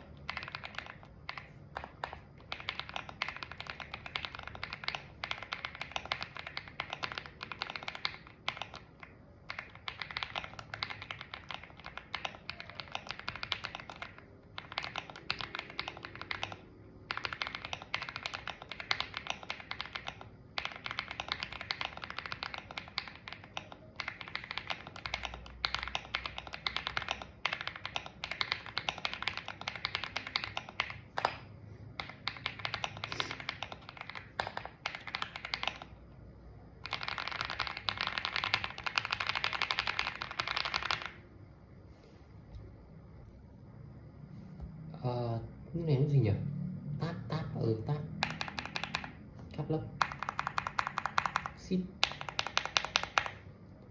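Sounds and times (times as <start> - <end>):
mechanical keyboard typing: 0.0 - 41.3, 48.1 - 53.9.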